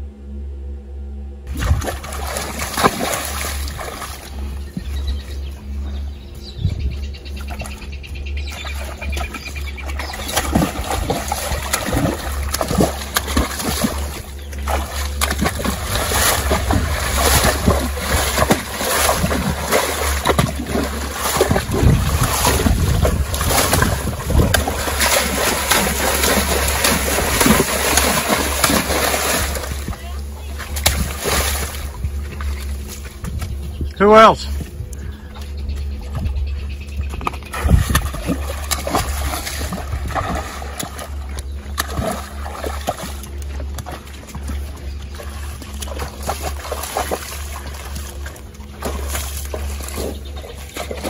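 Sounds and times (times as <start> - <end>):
hooves splashing in muddy water: 1.5 - 51.0.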